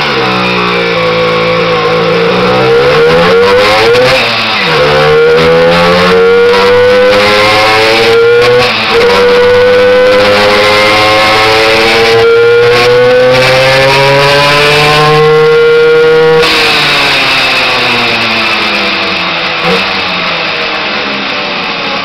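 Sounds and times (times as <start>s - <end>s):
two-stroke moped engine revving: 0.0s - 21.0s.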